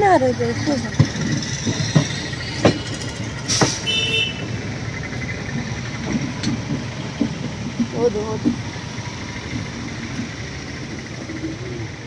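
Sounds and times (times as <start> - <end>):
train rumble and rush: 0.0 - 12.0.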